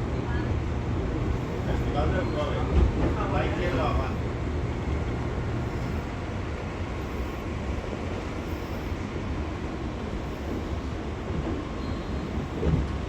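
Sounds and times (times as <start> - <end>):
wheels rumbling on rails: 0.0 - 13.0.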